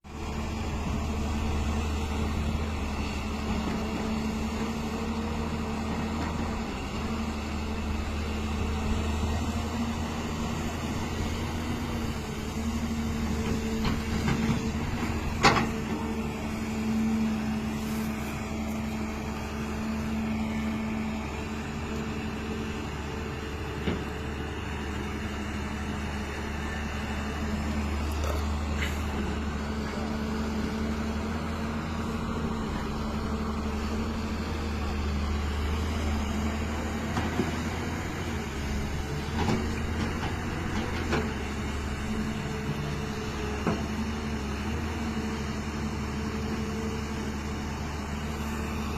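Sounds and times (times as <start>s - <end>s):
excavator diesel engine running: 0.1s - 48.9s.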